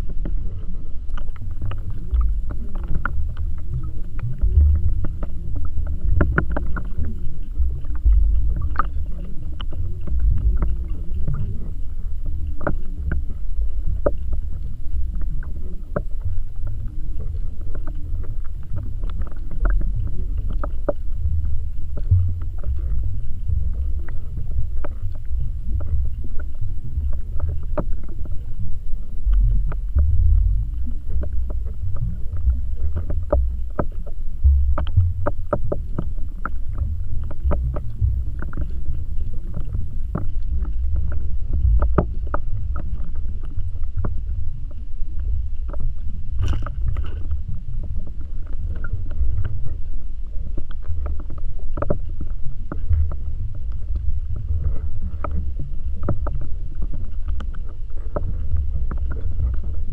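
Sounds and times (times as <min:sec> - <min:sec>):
underwater rumble of water: 0:00.0 - 0:59.9.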